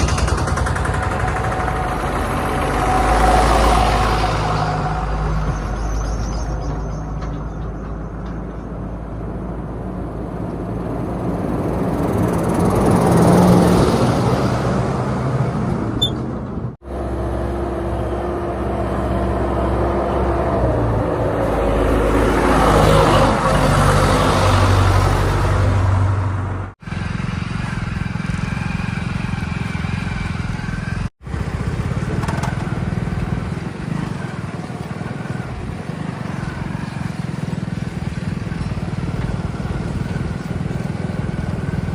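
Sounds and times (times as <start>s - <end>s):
vehicle engines running: 0.0s - 41.9s.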